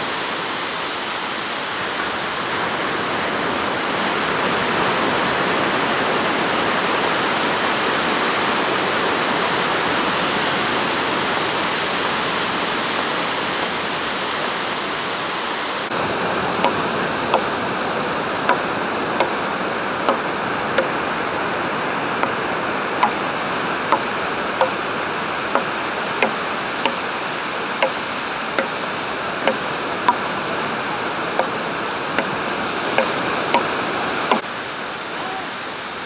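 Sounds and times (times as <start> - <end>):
sea surf breaking: 0.0 - 36.0.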